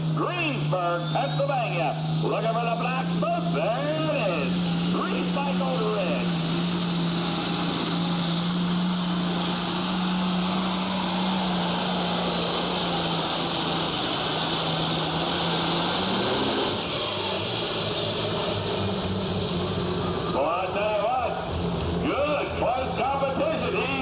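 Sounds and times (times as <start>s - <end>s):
high turbo whine: 0.0s - 24.0s
tractor diesel engine under load: 0.0s - 24.0s.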